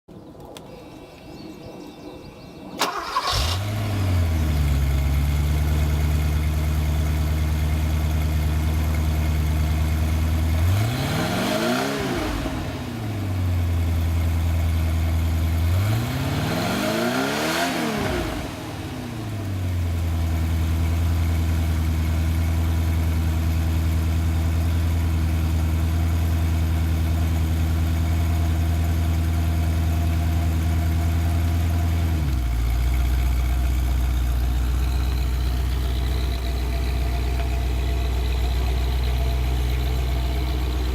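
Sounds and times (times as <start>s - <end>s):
car engine starting and idling: 2.6s - 40.9s
car engine revving: 2.8s - 40.9s.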